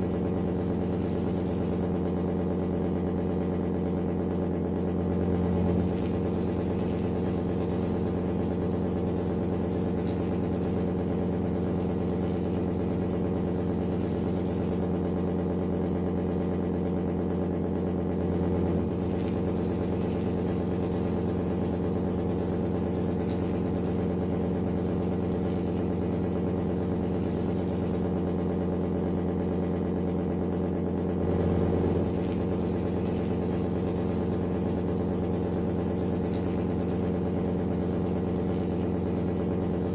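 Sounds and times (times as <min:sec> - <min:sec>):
model engine idling: 0:00.0 - 0:39.9.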